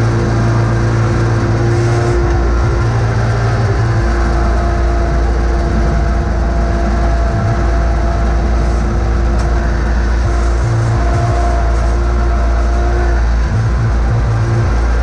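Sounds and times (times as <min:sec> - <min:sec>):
garden tractor engine running: 0:00.0 - 0:15.0
plow blade pushing snow: 0:00.0 - 0:15.0.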